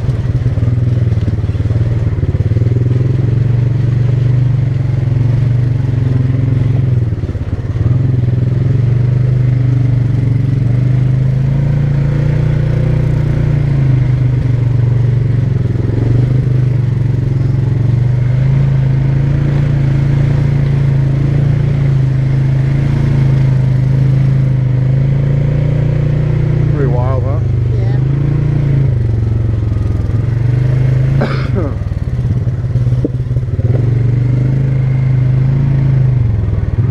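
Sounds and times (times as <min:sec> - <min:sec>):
atv engine running: 0:00.0 - 0:36.9.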